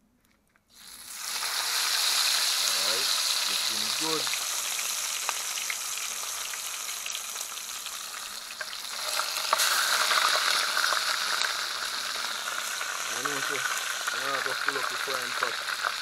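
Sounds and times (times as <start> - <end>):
fish sizzling in hot oil: 0.7 - 16.0.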